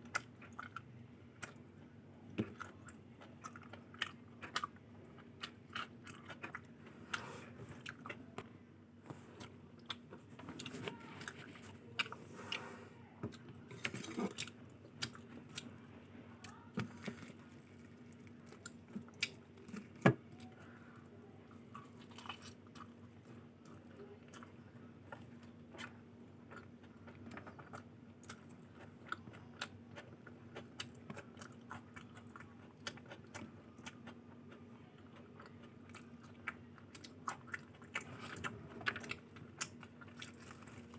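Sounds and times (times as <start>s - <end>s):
chewing and biting food: 0.0s - 1.7s, 2.4s - 8.5s, 13.3s - 15.8s, 16.4s - 20.5s, 21.5s - 40.9s
faint steady hum: 0.0s - 40.9s.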